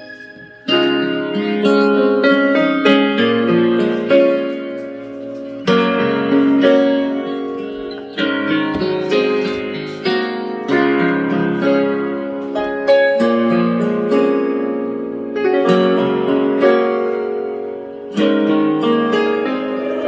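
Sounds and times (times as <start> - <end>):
plucked string and piano music: 0.0 - 20.0.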